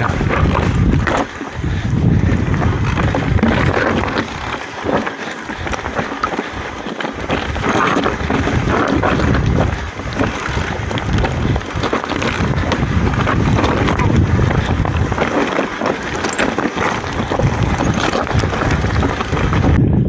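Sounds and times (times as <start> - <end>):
tyres crunching over stones: 0.0 - 19.8
bike rattling: 0.0 - 20.0
wind buffeting microphone: 0.0 - 20.0.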